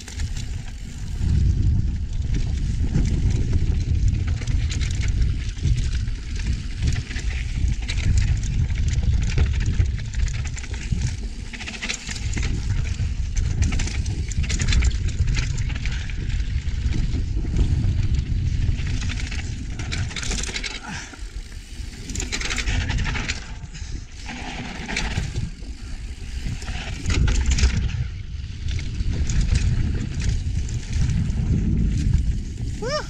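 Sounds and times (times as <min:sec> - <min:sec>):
bike rattling: 0:00.0 - 0:33.0
wind rumbling on microphone: 0:00.0 - 0:33.0.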